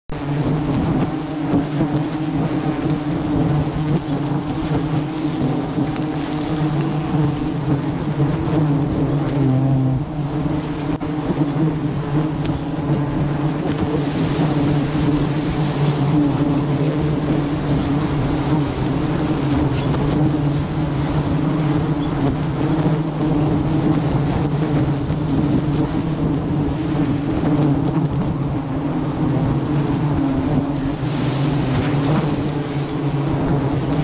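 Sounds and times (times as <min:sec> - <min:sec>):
bees buzzing: 0:00.1 - 0:34.0.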